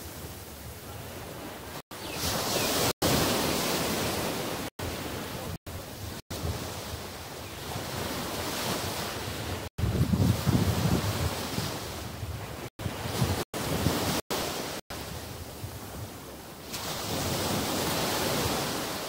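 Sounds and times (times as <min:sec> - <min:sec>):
surf washing up sandy beach: 0:00.0 - 0:19.0
wind buffeting microphone: 0:00.0 - 0:19.0.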